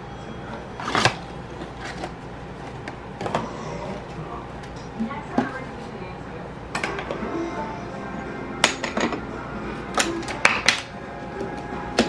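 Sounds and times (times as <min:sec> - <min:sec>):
coffee machine motor and pump hum: 0:00.0 - 0:12.0.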